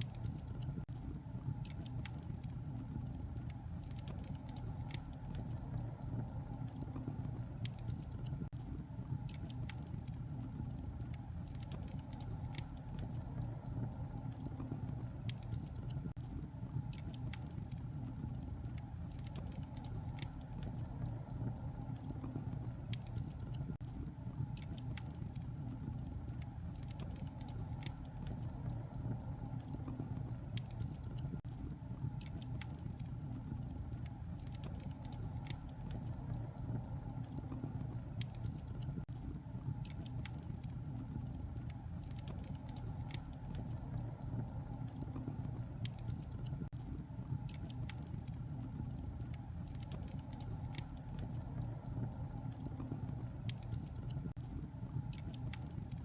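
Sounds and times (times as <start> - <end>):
fire crackling and popping: 0.0 - 56.0
fire flames rumbling: 0.0 - 56.0.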